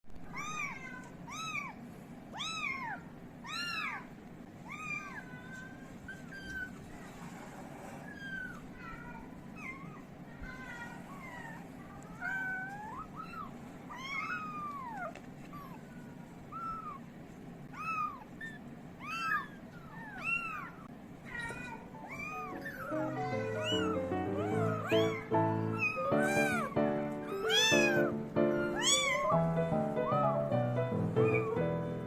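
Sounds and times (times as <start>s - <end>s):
kittens mewing: 0.2s - 7.0s, 8.0s - 32.0s.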